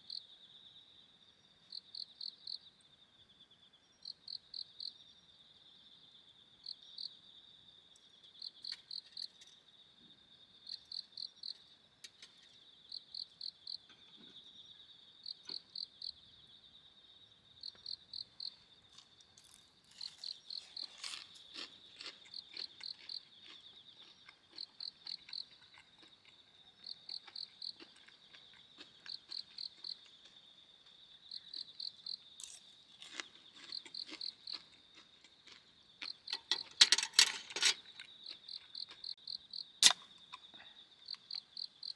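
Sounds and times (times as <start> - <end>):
cricket steady trill: 0.0 - 41.9
cricket chirping in short runs: 3.8 - 41.9.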